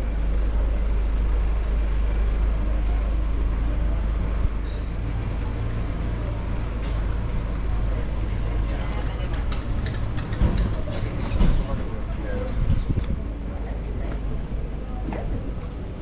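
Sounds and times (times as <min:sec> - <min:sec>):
deep low drone: 0:00.0 - 0:16.0
street traffic rumble: 0:00.0 - 0:16.0.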